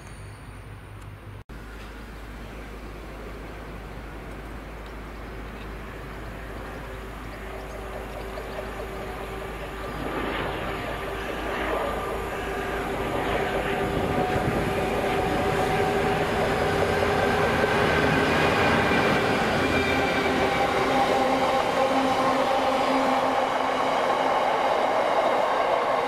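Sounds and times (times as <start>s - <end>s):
train wheels rumbling on rails: 1.6s - 26.0s.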